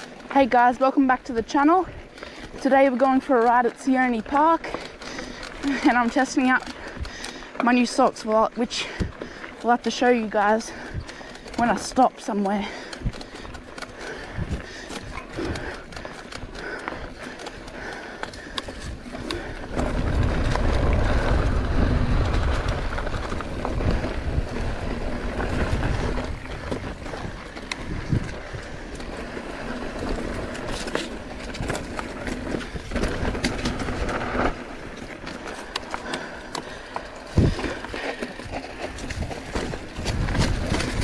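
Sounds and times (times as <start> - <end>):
bike and stones rattling: 0.0 - 41.0
bike tyres on gravel trail: 0.0 - 41.0.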